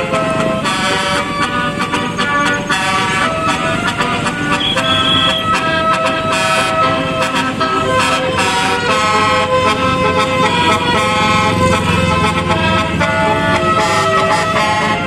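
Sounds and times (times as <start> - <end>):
low bus engine rumble: 0.0 - 15.0
multi-note bus air horns: 0.0 - 15.0.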